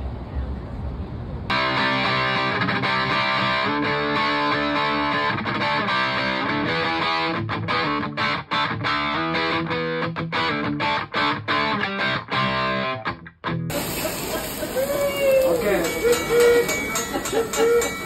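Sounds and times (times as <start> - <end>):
electric guitar chords: 1.5 - 18.0.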